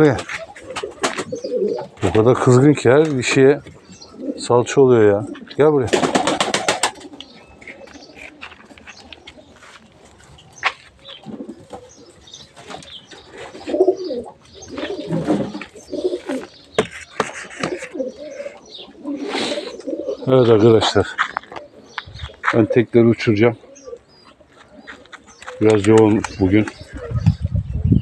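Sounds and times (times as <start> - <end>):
pigeons cooing: 0.0 - 28.0.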